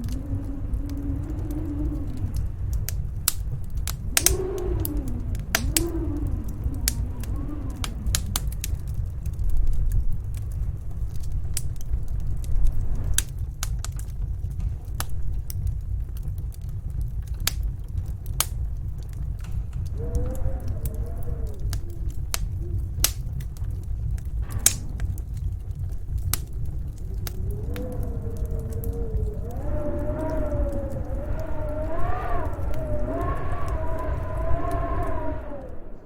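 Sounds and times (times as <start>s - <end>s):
snowstorm wind howling: 0.0s - 36.0s
wood fire crackling: 0.0s - 36.0s.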